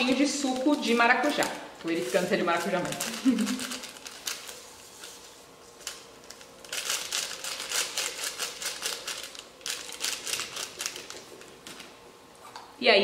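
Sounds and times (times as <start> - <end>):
foil sachet crinkling: 0.0 - 11.9.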